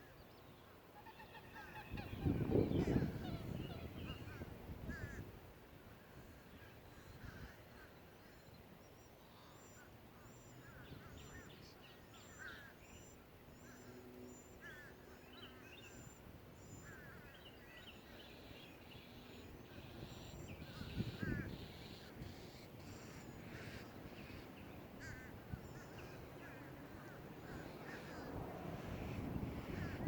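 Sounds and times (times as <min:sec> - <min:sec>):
wild birds chirping: 0:00.0 - 0:30.0.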